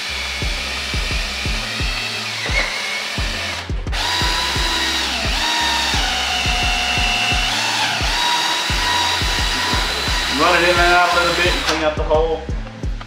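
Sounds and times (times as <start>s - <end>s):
cordless drill boring through plastic: 0.0s - 11.9s.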